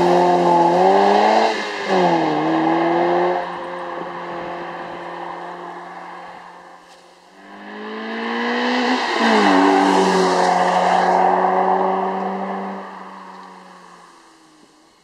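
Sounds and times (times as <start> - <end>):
car engine accelerating: 0.0 - 6.8, 7.4 - 15.0.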